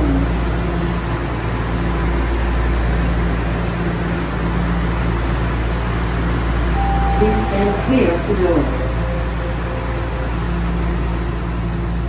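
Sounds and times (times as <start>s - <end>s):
subway car equipment humming: 0.0s - 12.0s.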